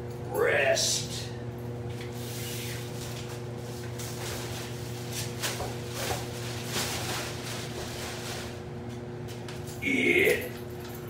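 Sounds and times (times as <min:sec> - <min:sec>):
low hum of boiler machinery: 0:00.0 - 0:11.0.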